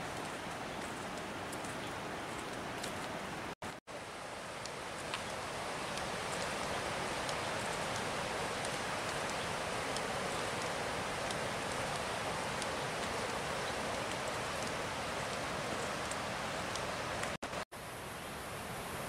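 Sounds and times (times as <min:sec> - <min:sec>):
waterfall and river rushing: 0:00.0 - 0:19.0.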